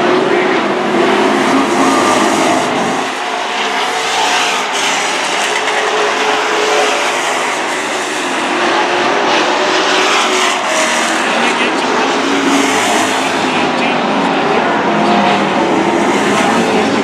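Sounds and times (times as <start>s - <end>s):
racing truck engines: 0.0s - 17.0s.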